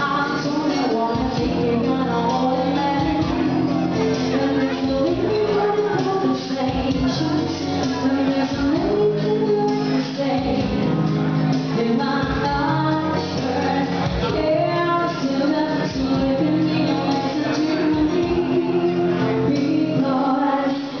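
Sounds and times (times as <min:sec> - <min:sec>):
live band playing: 0:00.0 - 0:21.0
woman singing: 0:00.0 - 0:21.0.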